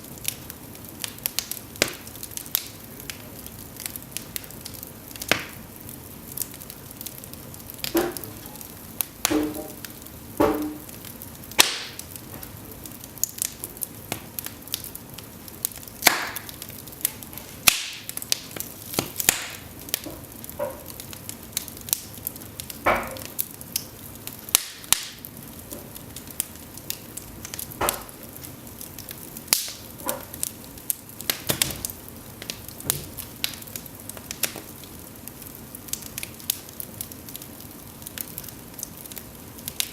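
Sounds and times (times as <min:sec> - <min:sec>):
logs burning in fireplace: 0:00.0 - 0:39.9.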